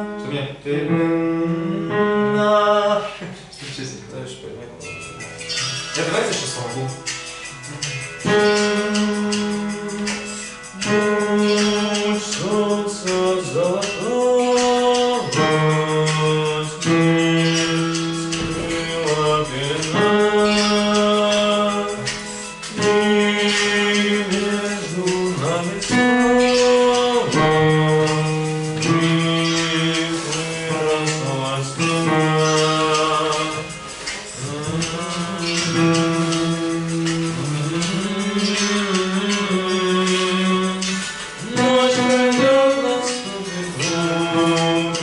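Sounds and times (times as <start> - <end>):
instrumental accompaniment: 0.0 - 45.0
person singing long sliding notes: 7.6 - 45.0.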